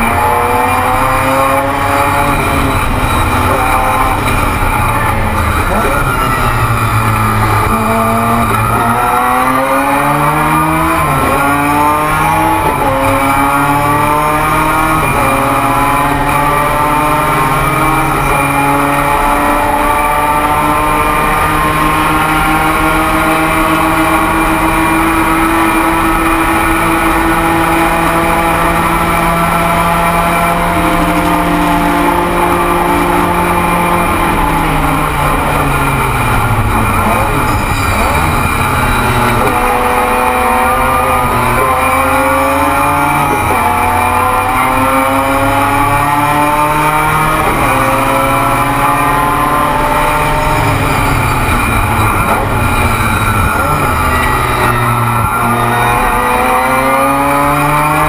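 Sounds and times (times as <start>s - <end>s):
race engine accelerating hard: 0.0s - 58.0s.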